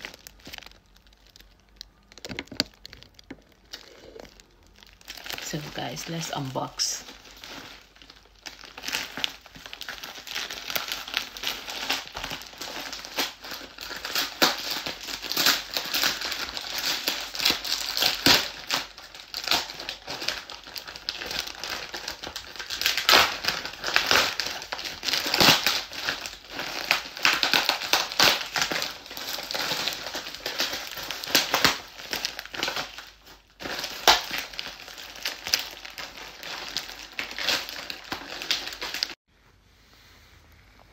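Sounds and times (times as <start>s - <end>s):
parcel wrapping crinkling and tearing: 0.0s - 39.2s.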